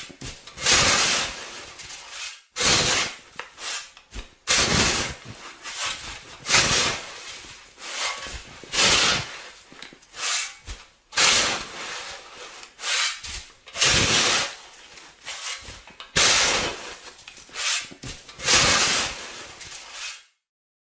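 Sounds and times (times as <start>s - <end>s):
snow shovel scraping snow: 0.0s - 20.4s.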